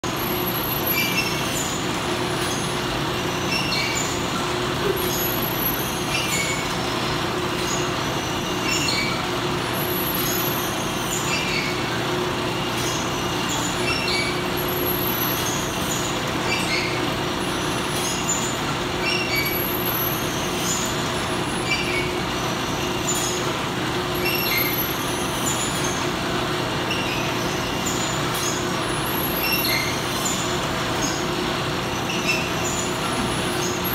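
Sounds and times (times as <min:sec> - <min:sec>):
packaging machinery drone: 0:00.0 - 0:33.9.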